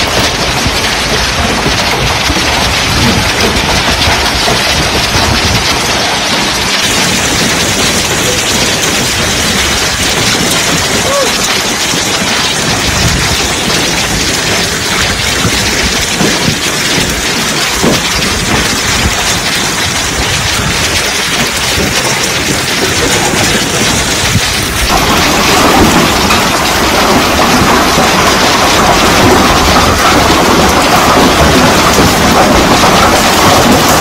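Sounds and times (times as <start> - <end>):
heavy rain and hail on car roof: 0.0 - 34.0.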